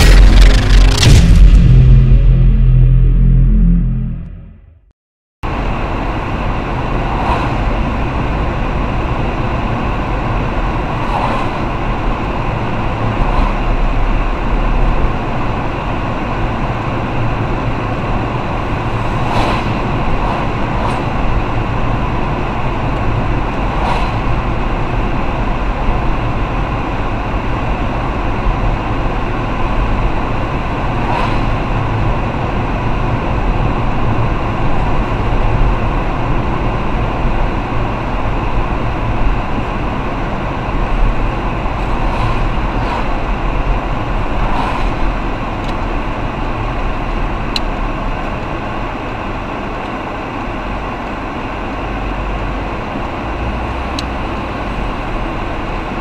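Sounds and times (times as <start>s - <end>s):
car engine and tyres on wet road: 5.5s - 56.0s.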